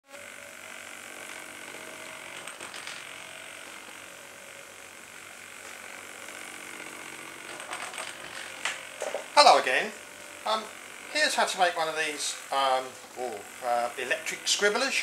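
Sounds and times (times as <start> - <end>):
small motor spinning: 0.0 - 15.0.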